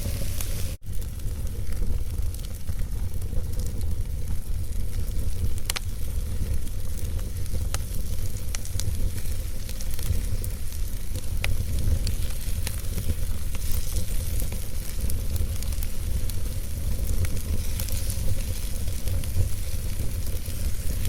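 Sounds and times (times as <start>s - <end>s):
fire rumbling and hissing: 0.0s - 21.0s
wood crackling and popping: 0.0s - 21.0s.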